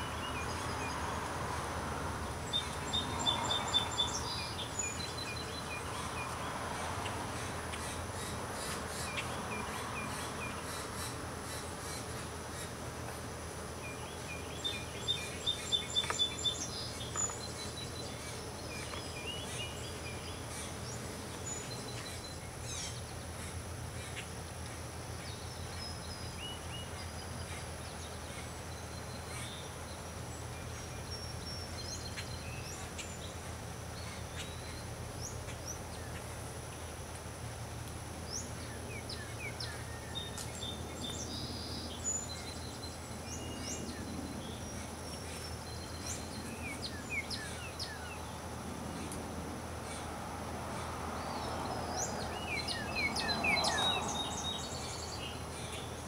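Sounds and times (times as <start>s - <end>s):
background hiss: 0.0s - 56.0s
small birds chirping: 2.2s - 36.9s, 37.8s - 56.0s.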